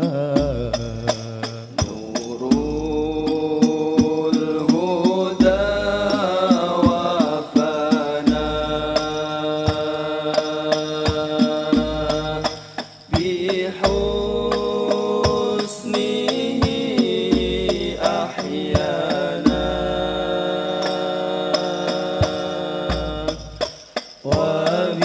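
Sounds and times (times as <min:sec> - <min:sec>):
frame drums beating: 0:00.0 - 0:25.0
male voices chanting in unison: 0:00.0 - 0:25.0.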